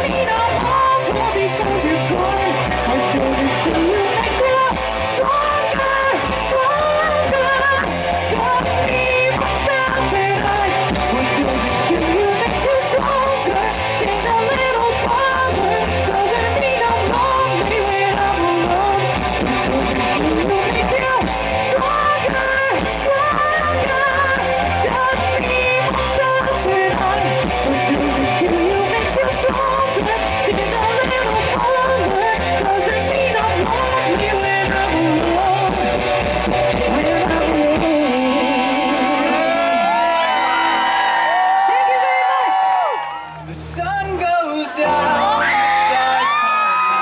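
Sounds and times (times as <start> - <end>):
steady drum beat: 0.0 - 41.6
guitar: 0.0 - 47.0
live pop-rock band playing: 0.0 - 47.0.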